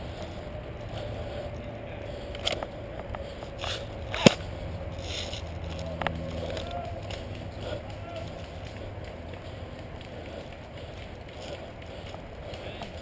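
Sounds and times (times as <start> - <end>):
footsteps on dirt trail: 0.0 - 13.0
steady low hum: 0.0 - 13.0.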